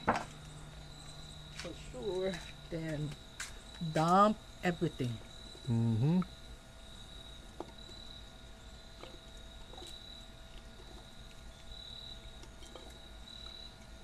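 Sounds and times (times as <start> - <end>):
high-pitched cricket trill: 0.0 - 14.0.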